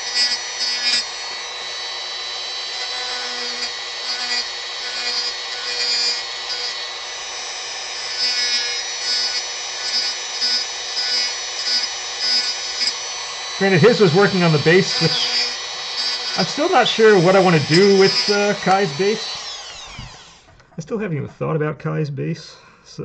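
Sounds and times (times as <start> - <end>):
rotary tool grinding wood: 0.0 - 20.8.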